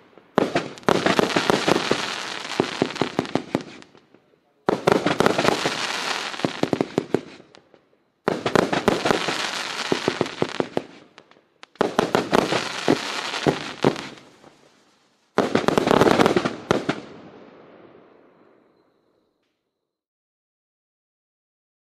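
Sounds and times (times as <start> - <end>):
fireworks crackling bangs: 0.0 - 18.3.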